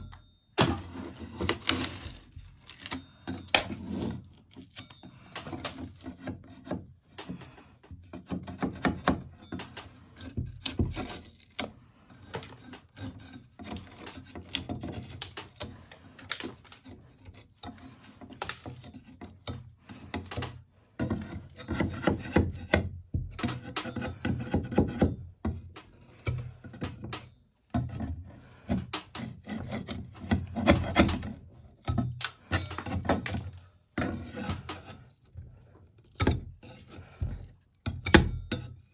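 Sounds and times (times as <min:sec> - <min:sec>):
metal spatula scraping a wall: 0:00.6 - 0:38.9.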